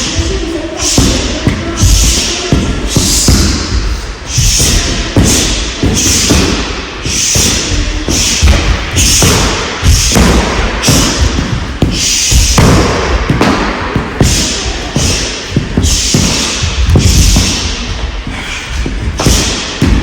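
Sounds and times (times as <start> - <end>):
punches and kicks thudding on mat: 1.0 - 18.0.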